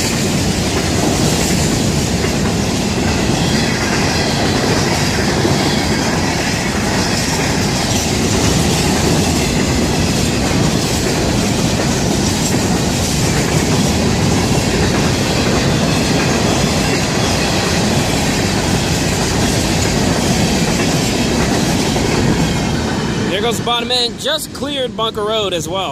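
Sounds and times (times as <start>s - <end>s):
freight train rumbling past: 0.0s - 25.9s.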